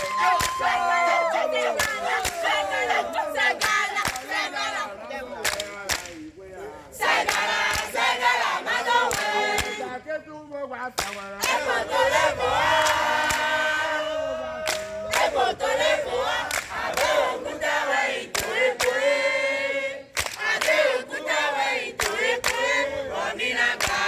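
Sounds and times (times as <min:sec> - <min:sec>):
group singing and shouting chant: 0:00.0 - 0:24.0.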